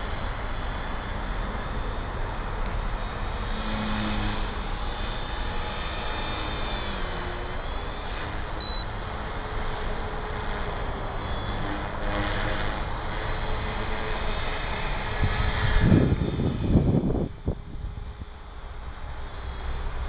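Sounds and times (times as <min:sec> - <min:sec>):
constant rushing background: 0:00.0 - 0:20.0
rc helicopter rotor whine: 0:00.0 - 0:20.0.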